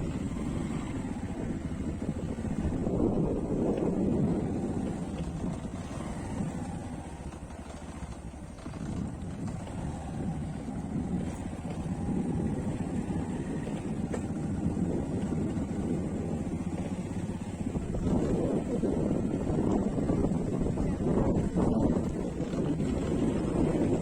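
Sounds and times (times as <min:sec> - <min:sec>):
wind on microphone: 0:00.0 - 0:06.9, 0:08.7 - 0:24.0
motor vehicle running: 0:00.0 - 0:24.0.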